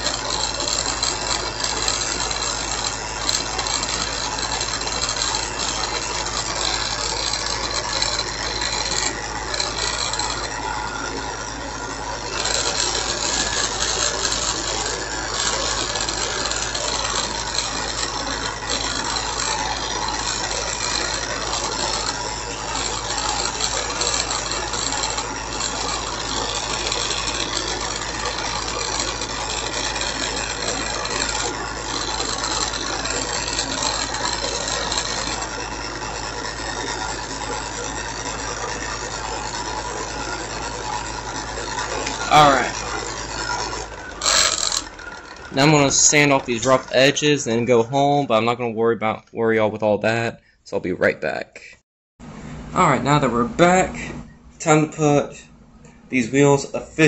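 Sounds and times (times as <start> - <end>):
bench grinder grinding plastic: 0.0 - 49.4.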